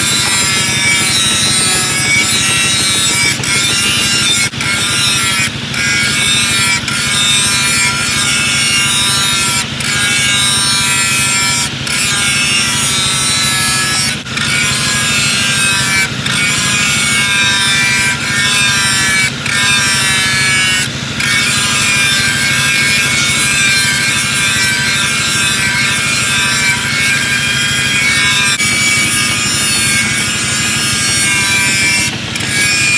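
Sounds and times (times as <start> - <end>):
angle grinder grinding steel: 0.0 - 32.9.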